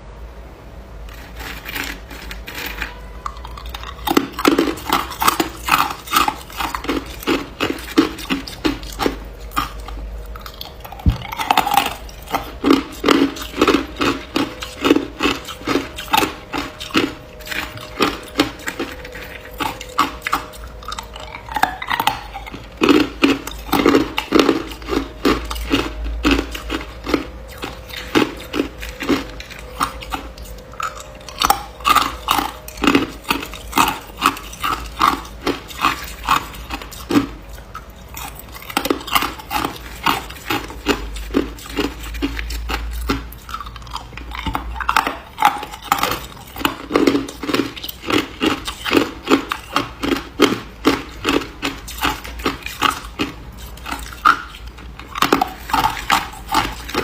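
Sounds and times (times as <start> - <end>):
ice crunching while chewed: 1.1 - 57.0.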